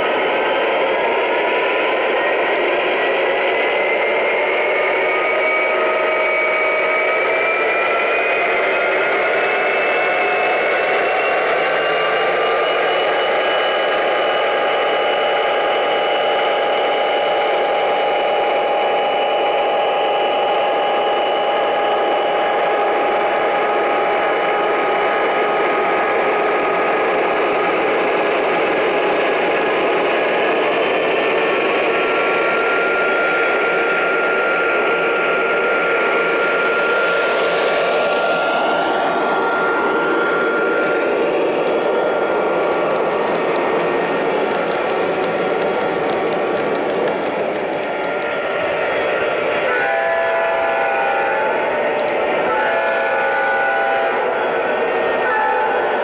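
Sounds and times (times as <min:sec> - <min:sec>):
model locomotive diesel engine sound: 0:00.0 - 0:56.0
steady whining tones: 0:00.0 - 0:56.0.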